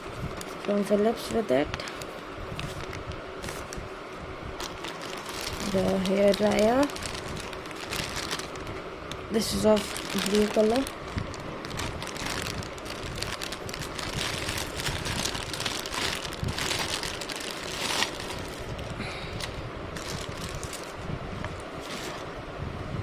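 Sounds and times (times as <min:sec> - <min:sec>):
packaging rustling and crinkling: 0:00.0 - 0:04.0, 0:04.6 - 0:22.3.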